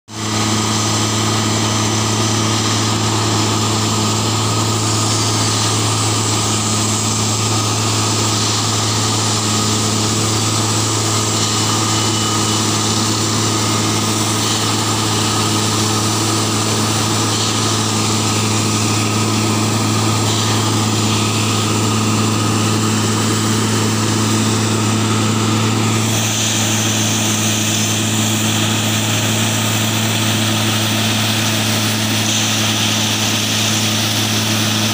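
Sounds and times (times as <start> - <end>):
tamping machine engine drone: 0.1 - 34.9.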